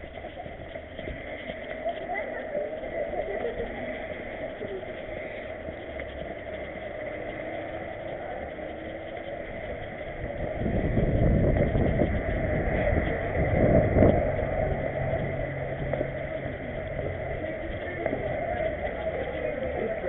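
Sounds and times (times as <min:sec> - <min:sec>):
car passing: 0:00.0 - 0:20.0
street noise: 0:00.0 - 0:20.0.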